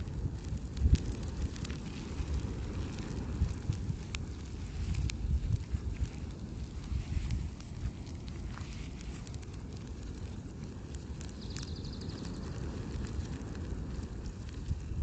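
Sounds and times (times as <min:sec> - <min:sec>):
fire crackling and popping: 0:00.0 - 0:15.0
wind on microphone: 0:00.0 - 0:15.0.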